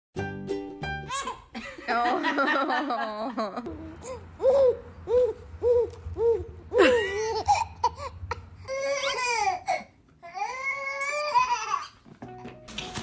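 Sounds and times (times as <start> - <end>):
baby laughing: 1.1 - 12.0.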